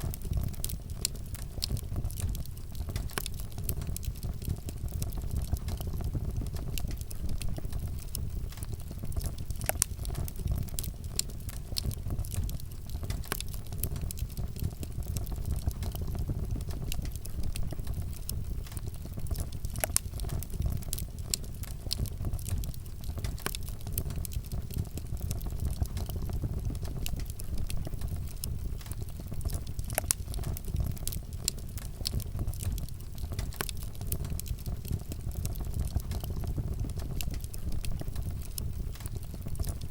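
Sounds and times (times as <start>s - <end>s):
burning wood crackling and popping: 0.0s - 39.9s
low rumble of flames: 0.0s - 39.9s.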